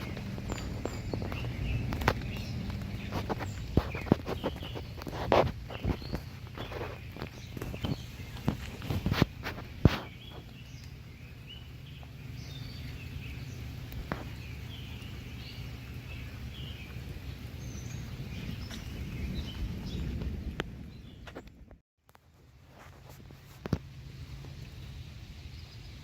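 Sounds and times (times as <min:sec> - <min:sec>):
birds chirping: 0:00.0 - 0:21.8, 0:23.7 - 0:26.0
low rumble: 0:00.0 - 0:21.8.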